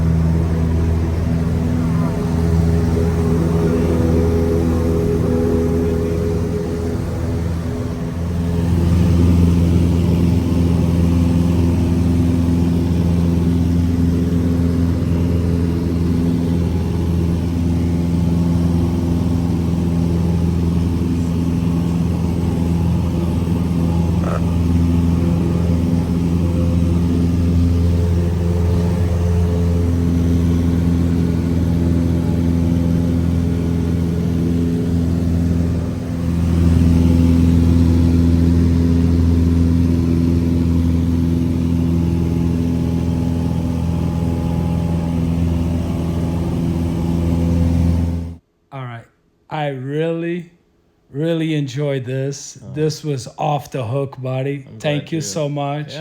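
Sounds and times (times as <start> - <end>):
light aircraft engine droning: 0.0 - 48.4.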